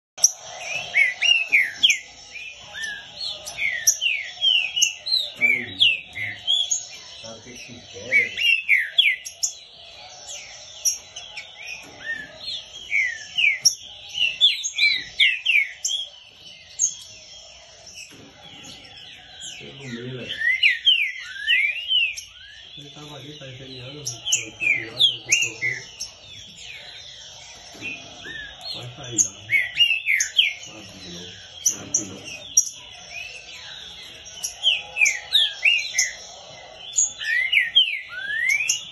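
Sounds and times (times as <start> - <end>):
bird singing whistled notes: 0.2 - 38.9
faint high bird chirps: 0.2 - 38.9.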